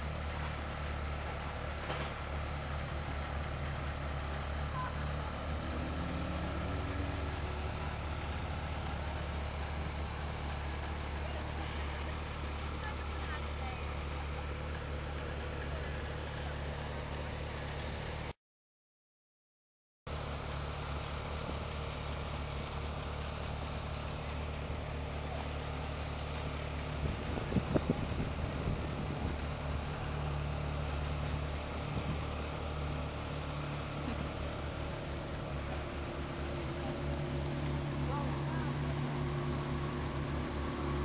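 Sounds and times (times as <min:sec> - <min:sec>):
car engine idling: 0:00.0 - 0:18.3, 0:20.1 - 0:41.0.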